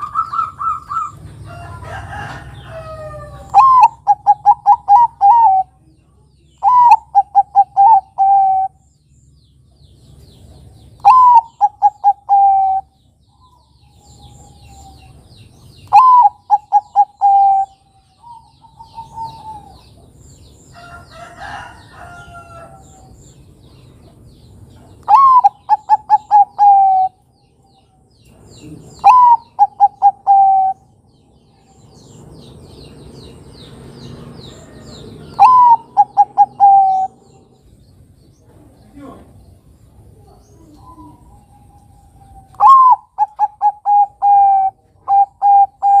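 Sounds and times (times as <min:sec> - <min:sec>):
dove cooing song: 0:00.0 - 0:05.9, 0:06.5 - 0:08.9, 0:10.4 - 0:23.1, 0:24.7 - 0:37.8, 0:39.9 - 0:46.0.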